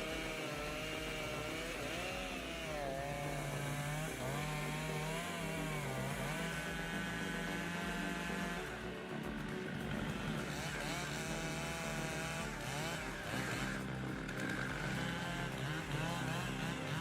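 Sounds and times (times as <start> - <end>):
engine running with wavering pitch: 0.0 - 17.0.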